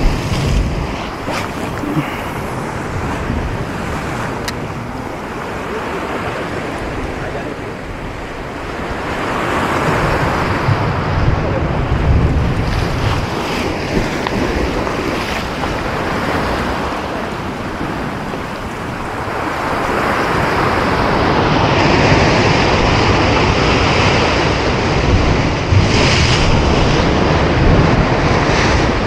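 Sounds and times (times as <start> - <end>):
waves breaking on rocky shore: 0.0 - 29.0
wind buffeting microphone: 0.0 - 29.0.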